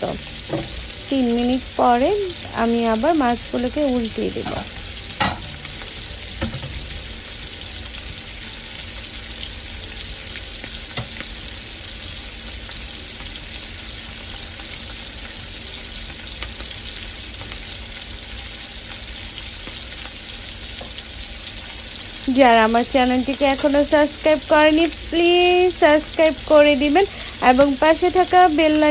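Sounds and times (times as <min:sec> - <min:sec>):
fish sizzling in oil: 0:00.0 - 0:28.9.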